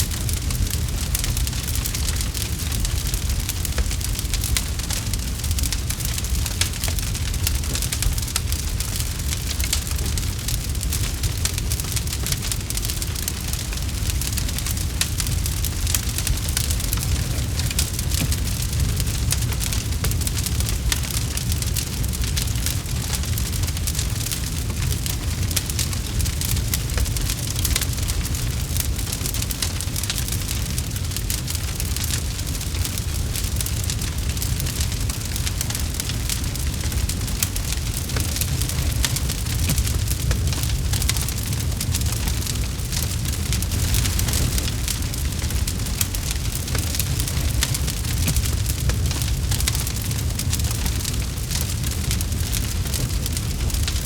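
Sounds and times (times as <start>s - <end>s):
campfire crackling and popping: 0.0s - 54.0s
low rumble of flames: 0.0s - 54.0s.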